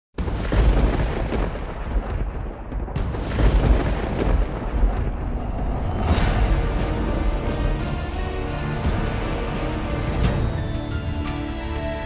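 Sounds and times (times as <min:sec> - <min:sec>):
deep thunder-like rumbling: 0:00.2 - 0:10.6.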